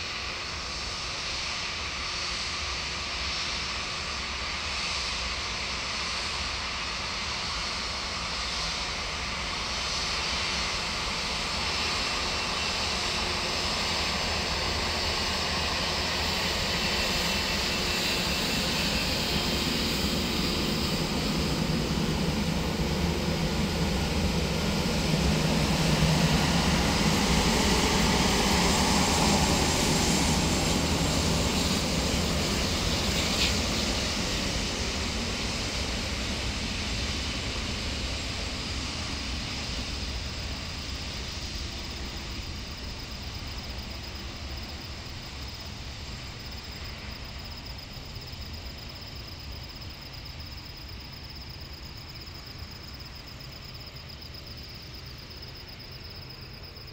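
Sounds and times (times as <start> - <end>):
jet engine rumble and hiss: 0.0 - 56.9.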